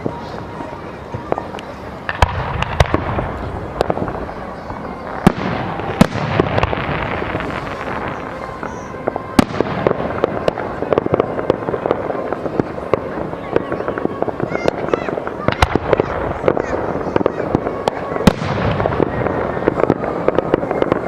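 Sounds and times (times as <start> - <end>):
firework bangs: 0.0 - 21.0
fireworks crackling: 0.0 - 21.0.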